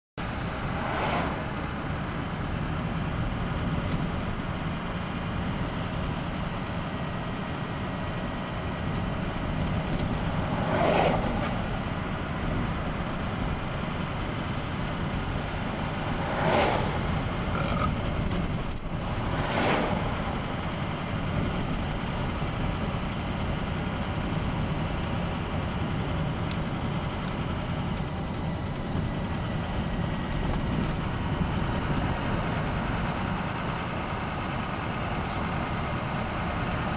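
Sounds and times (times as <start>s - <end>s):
car road and engine noise: 0.2s - 36.9s
oncoming vehicles passing by: 0.2s - 36.9s.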